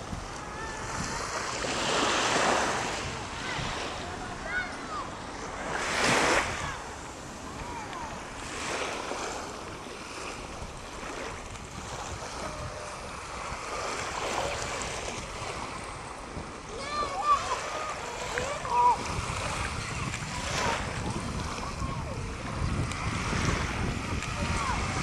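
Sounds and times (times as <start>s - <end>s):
surf washing onto beach: 0.0s - 25.0s
wind buffeting microphone: 0.0s - 25.0s.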